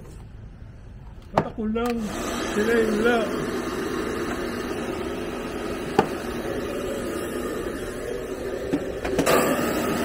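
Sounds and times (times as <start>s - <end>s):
hair dryer blowing: 1.9s - 10.0s.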